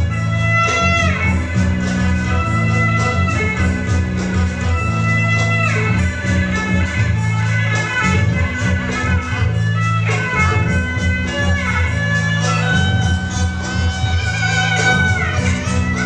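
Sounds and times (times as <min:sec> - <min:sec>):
high notes sliding down in pitch: 0:00.0 - 0:16.0
steady low bass: 0:00.0 - 0:16.0.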